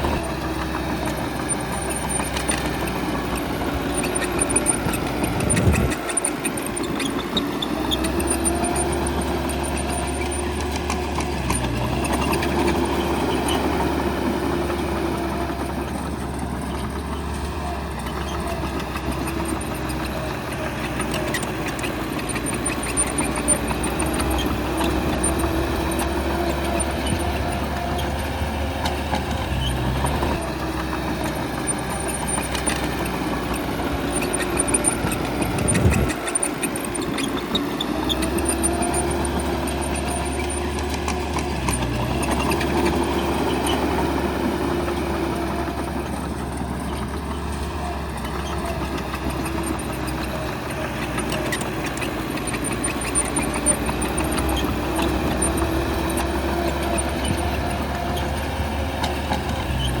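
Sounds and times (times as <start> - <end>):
bulldozer diesel engine running: 0.0 - 60.0
tracks and machinery clatter: 0.0 - 60.0.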